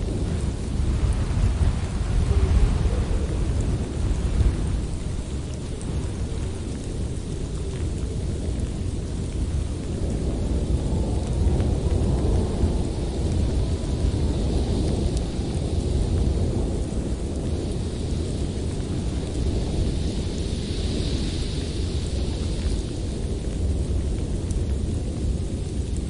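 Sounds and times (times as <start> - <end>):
blizzard wind blowing in gusts: 0.0 - 26.0.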